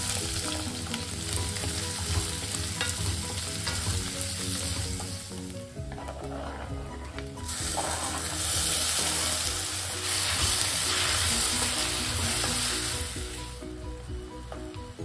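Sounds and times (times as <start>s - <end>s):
wooden spatula stirring in wok: 0.0s - 13.6s
tomatoes sizzling in hot oil: 0.0s - 15.0s.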